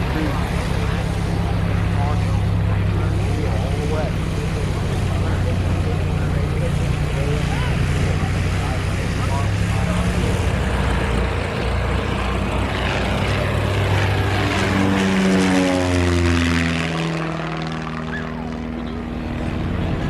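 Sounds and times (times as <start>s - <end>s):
propeller airplane passing: 0.0s - 20.0s.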